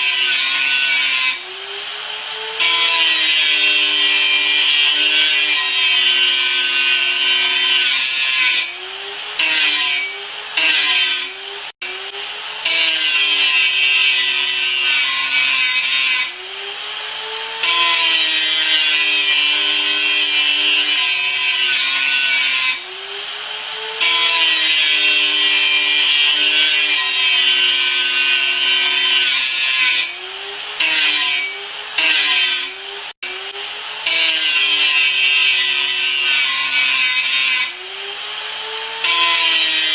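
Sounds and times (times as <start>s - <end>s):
electric grinder grinding: 0.0s - 39.9s.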